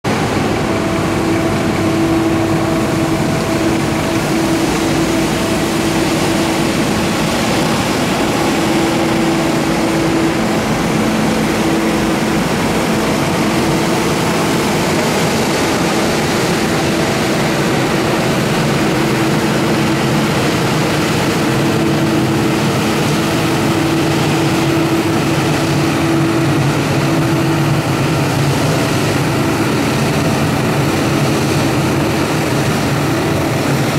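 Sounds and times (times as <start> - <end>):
sweeper truck engine humming: 0.1 - 33.9.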